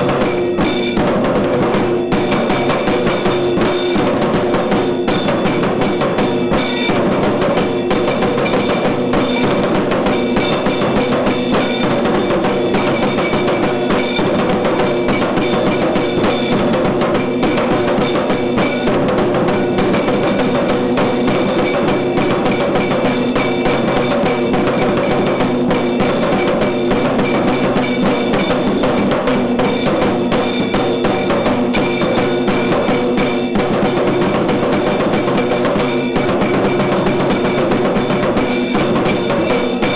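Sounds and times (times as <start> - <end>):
fast ensemble drumming: 0.0 - 39.9.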